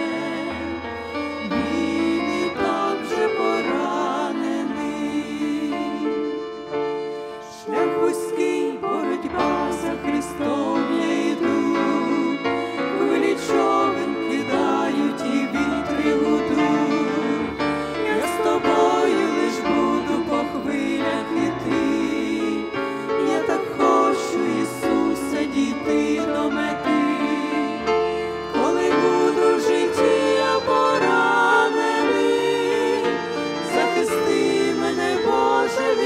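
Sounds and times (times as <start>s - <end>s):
women singing a hymn in harmony: 0.0s - 36.0s.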